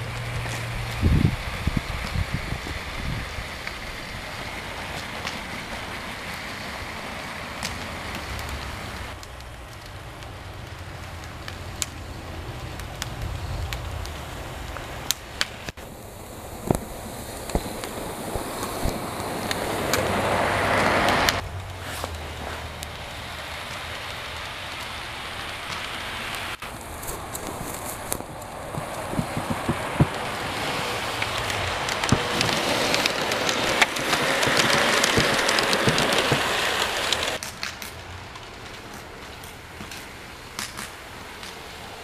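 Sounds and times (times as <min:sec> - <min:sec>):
snow plow scraping snow: 0:00.0 - 0:09.2, 0:14.1 - 0:42.0.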